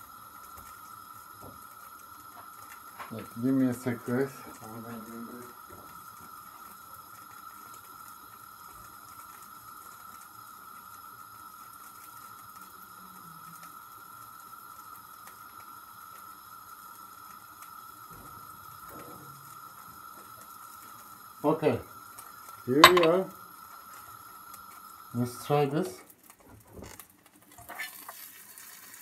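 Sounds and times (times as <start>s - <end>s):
frying pan hissing: 0.0s - 26.2s, 27.6s - 29.0s.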